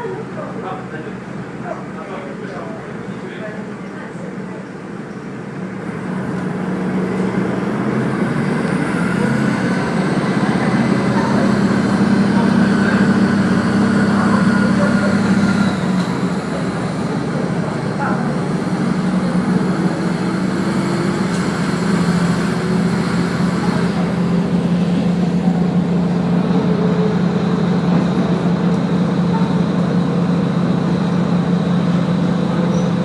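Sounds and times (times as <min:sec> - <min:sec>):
railcar engine drone: 0:00.0 - 0:33.0
train rail running noise: 0:00.0 - 0:33.0.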